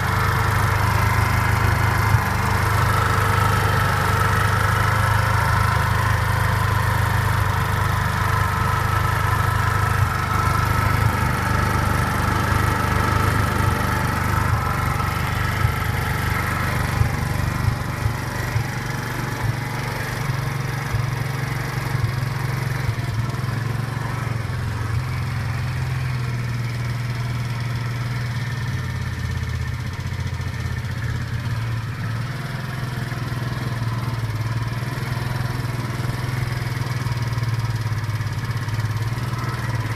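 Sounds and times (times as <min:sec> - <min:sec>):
engine knock: 0:00.0 - 0:39.9
motorcycle engine running: 0:00.0 - 0:39.9.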